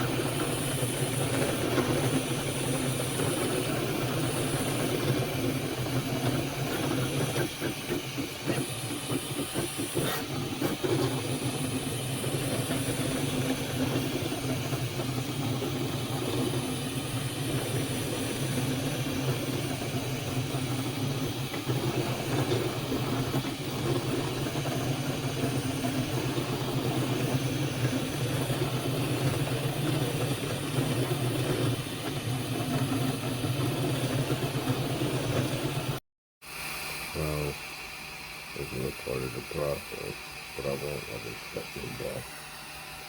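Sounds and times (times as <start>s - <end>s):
three d printer fans and motors humming: 0.0s - 43.0s.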